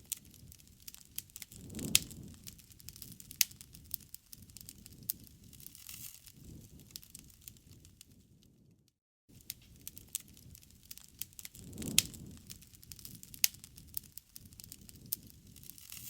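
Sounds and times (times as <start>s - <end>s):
sharp pops of fire: 0.0s - 8.7s, 9.3s - 16.0s
campfire crackling: 0.0s - 16.0s
low rumble of burning fire: 0.0s - 16.0s.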